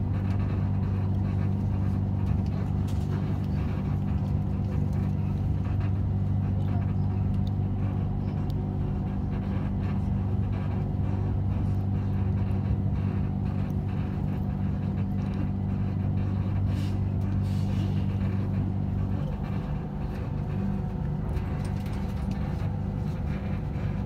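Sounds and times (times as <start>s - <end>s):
electric train hum and rumble: 0.0s - 24.0s.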